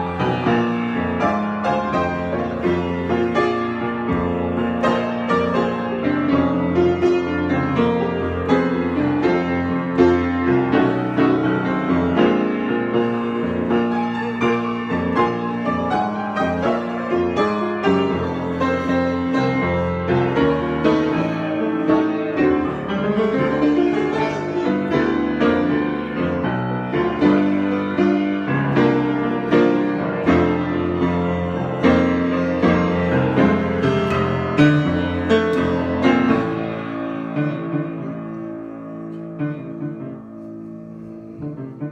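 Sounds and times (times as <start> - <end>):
piano improvisation: 0.0 - 41.9.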